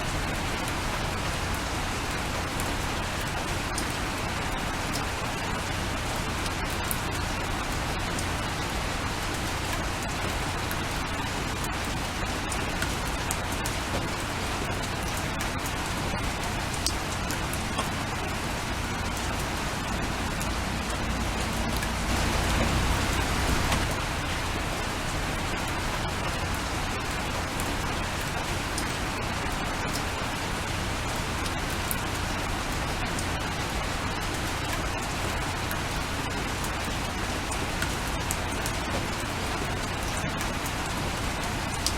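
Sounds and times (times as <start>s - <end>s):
raindrops ticking on a surface: 0.0s - 41.9s
steady rain falling: 0.0s - 41.9s.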